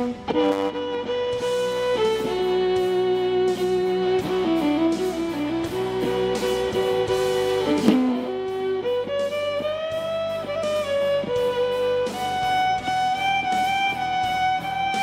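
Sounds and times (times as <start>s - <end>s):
backing track with guitar and beat: 0.0s - 15.0s
electric violin melody: 0.0s - 15.0s.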